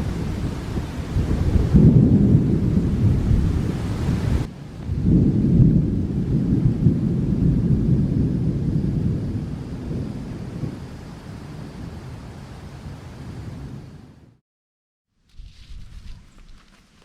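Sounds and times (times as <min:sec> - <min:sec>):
thunder rumbling: 0:00.0 - 0:14.4.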